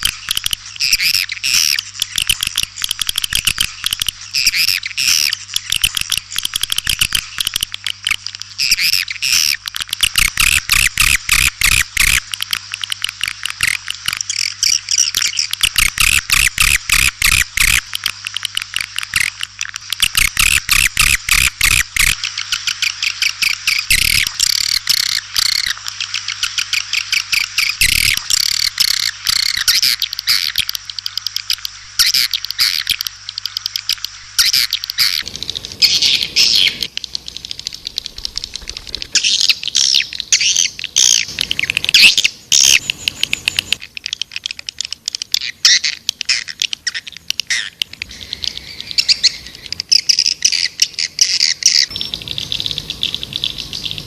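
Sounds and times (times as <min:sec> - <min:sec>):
sharp clicks: 0:00.0 - 0:22.8, 0:23.4 - 0:50.6
faint steady hum: 0:00.0 - 0:54.0
swiftlets chirping and twittering: 0:00.0 - 0:54.0.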